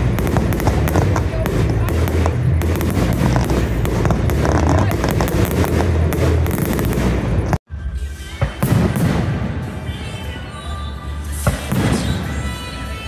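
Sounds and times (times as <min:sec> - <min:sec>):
fireworks crackling and banging: 0:00.0 - 0:07.6, 0:08.4 - 0:10.3, 0:11.4 - 0:12.6
music playing: 0:00.0 - 0:13.0.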